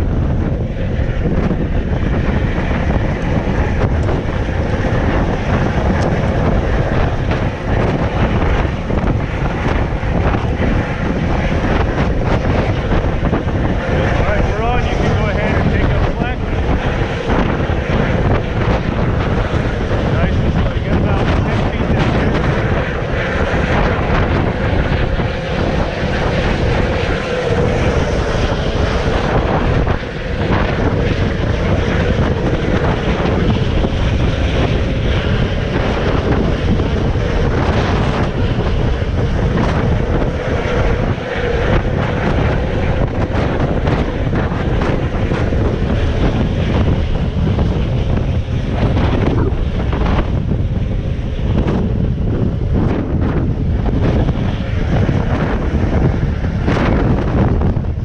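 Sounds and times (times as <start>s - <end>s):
helicopter rotor and engine: 0.0s - 58.0s
wind buffeting microphone: 0.0s - 58.0s.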